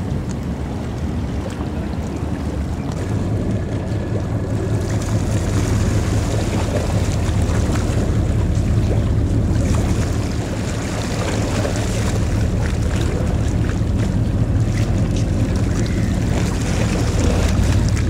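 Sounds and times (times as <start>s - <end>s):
ferry engines rumbling: 0.0s - 18.0s
water rushing along hull: 0.0s - 18.0s.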